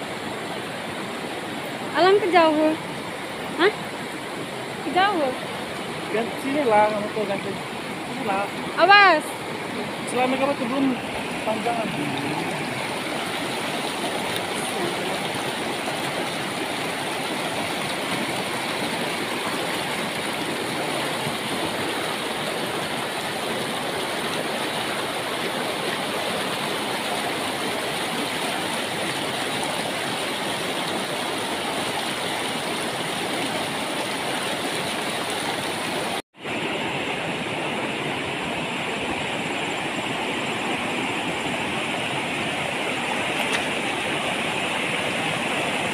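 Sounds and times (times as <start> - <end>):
river rushing over boulders: 0.0 - 45.9.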